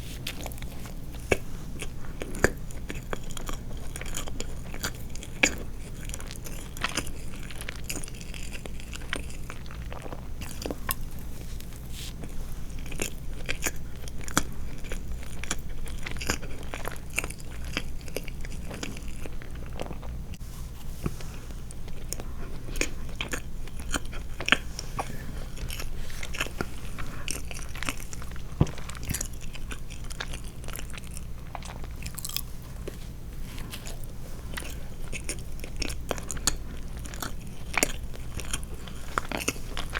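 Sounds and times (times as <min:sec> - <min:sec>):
person chewing: 0:00.0 - 0:20.2, 0:21.1 - 0:39.9.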